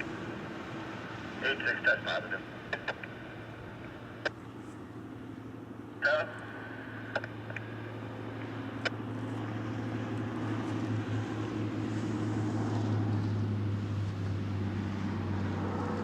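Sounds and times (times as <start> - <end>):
steady low hum: 0.0 - 13.4
road vehicle passing: 0.0 - 16.0.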